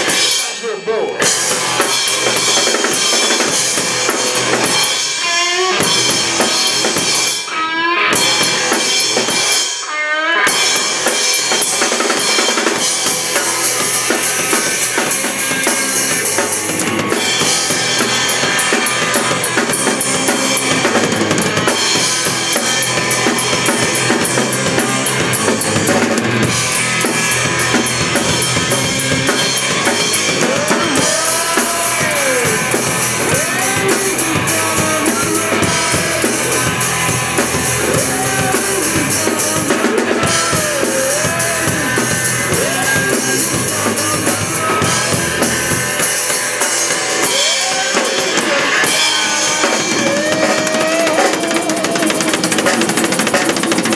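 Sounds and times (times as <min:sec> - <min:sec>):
live rock band playing: 0:00.0 - 0:53.9
loud drum kit: 0:00.0 - 0:53.9.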